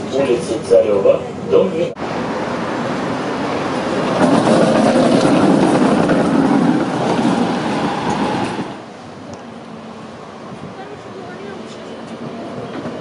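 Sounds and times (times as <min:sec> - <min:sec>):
tram rumbling past on rails: 0:00.0 - 0:13.0.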